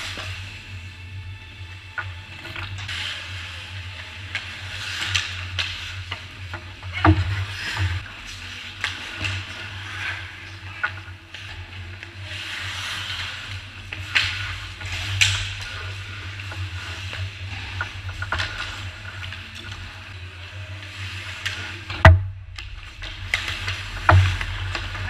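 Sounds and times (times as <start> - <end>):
steady low hum: 0.0 - 25.0
hockey sticks and puck clacking: 1.7 - 25.0
skates scraping on ice: 1.8 - 25.0.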